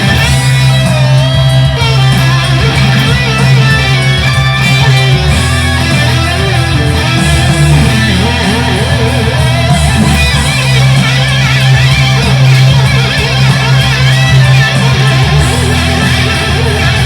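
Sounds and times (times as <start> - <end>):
electric guitar bending notes: 0.0 - 17.0.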